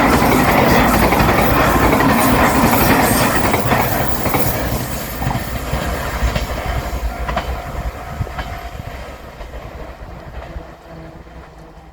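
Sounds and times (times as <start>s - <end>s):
train wheels clattering over rails: 0.0s - 11.9s.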